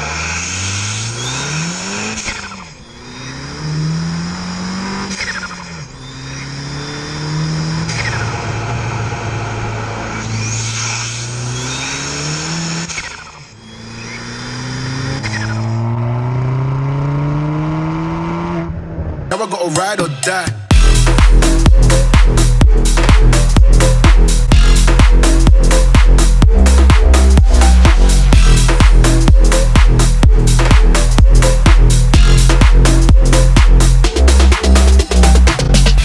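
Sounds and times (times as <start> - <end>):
car engine accelerating: 0.0 - 19.3, 20.6 - 36.0.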